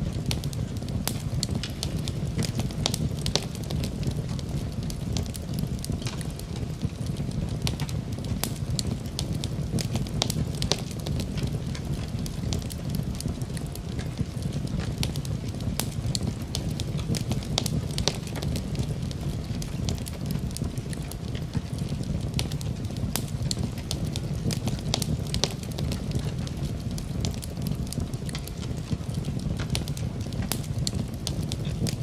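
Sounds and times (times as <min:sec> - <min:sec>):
fire crackling and popping: 0:00.0 - 0:32.0
low rush of flames: 0:00.0 - 0:32.0.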